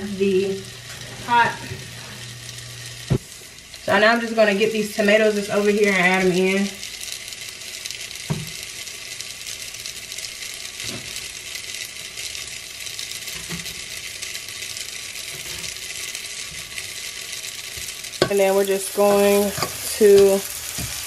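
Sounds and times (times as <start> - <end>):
sauce sizzling in pot: 0.0 - 21.0.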